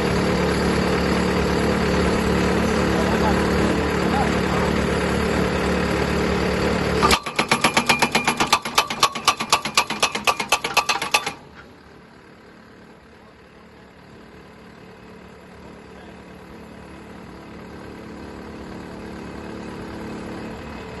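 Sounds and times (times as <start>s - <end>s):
pile driver engine running: 0.0s - 21.0s.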